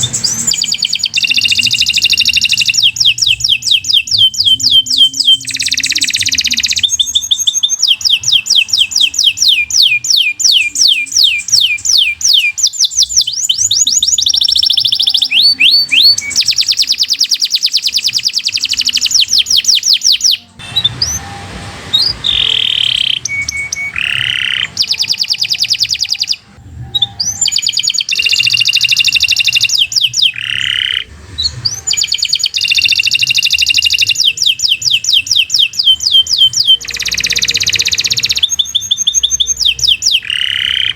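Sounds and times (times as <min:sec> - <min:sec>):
canary singing trills: 0:00.0 - 0:21.4, 0:22.0 - 0:40.9.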